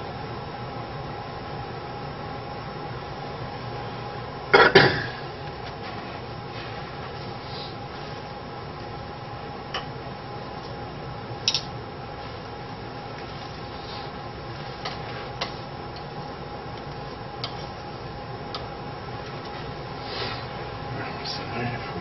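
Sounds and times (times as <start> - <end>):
steady hum and hiss: 0.0 - 22.0.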